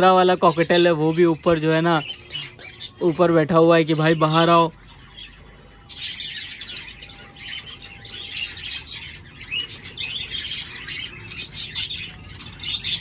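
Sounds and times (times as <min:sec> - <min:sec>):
birds chirping and warbling: 0:00.0 - 0:13.0.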